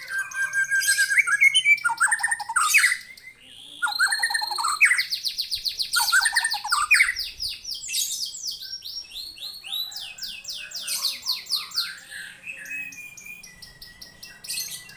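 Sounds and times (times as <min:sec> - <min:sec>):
bird singing rapid sweeping notes: 0:00.0 - 0:14.9.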